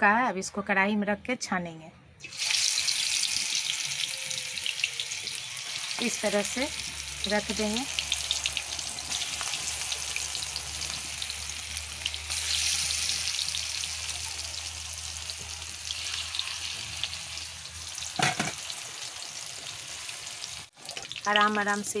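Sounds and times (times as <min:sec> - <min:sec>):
deep-frying in hot oil: 0:02.2 - 0:22.0.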